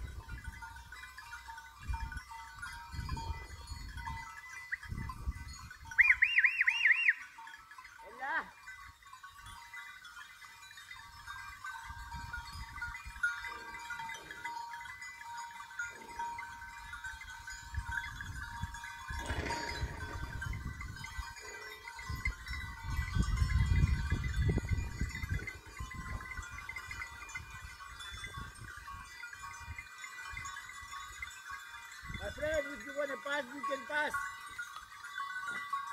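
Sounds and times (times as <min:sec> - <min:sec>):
goat bells ringing: 0:00.0 - 0:35.9.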